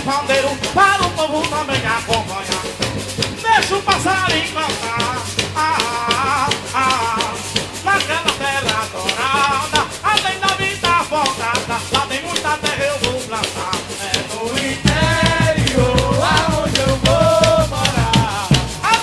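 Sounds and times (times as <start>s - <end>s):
hand drums: 0.0s - 19.0s
people singing: 0.0s - 19.0s
shaker: 0.0s - 19.0s.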